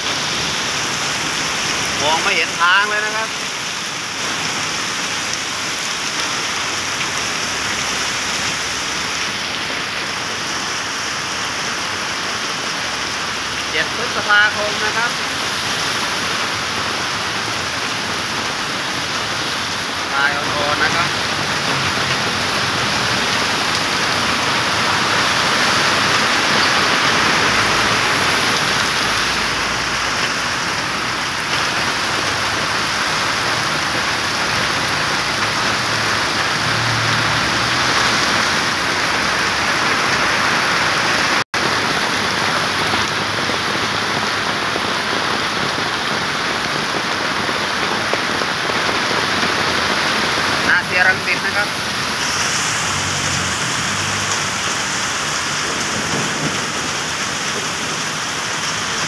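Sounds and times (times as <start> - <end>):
cars swishing through water: 0.0 - 5.8, 6.4 - 59.0
heavy rain pounding a road: 0.0 - 59.0.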